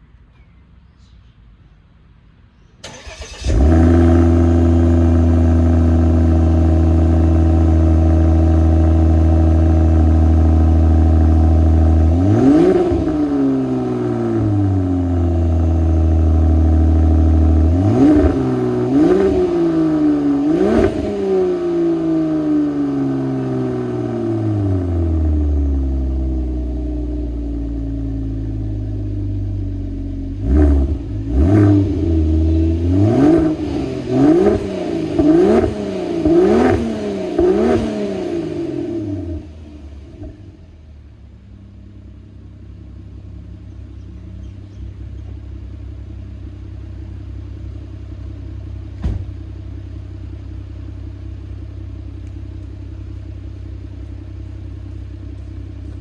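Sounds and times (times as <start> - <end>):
car engine idling and revving: 2.8 - 56.0.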